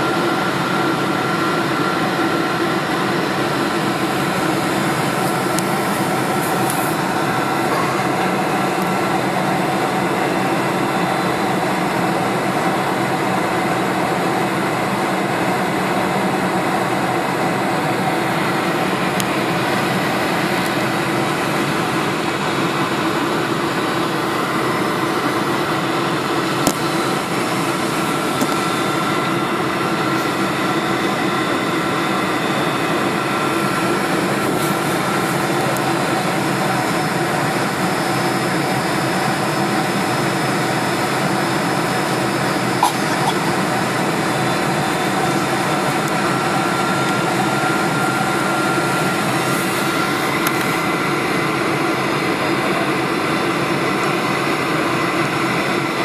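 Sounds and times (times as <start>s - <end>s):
faint whine: 0.0s - 56.0s
jet engines running: 0.0s - 56.0s.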